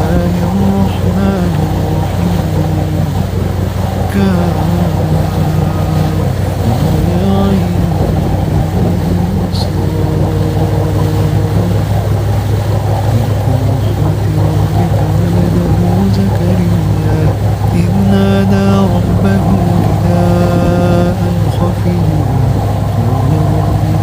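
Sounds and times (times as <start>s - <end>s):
deep rumbling drone: 0.0s - 24.0s
man chanting recitation: 0.0s - 24.0s.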